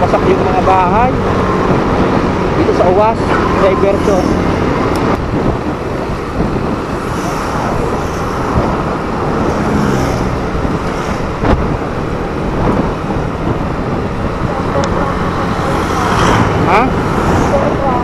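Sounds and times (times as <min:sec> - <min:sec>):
motorcycle engine: 0:00.0 - 0:18.0
wind rumbling on microphone: 0:00.0 - 0:18.0.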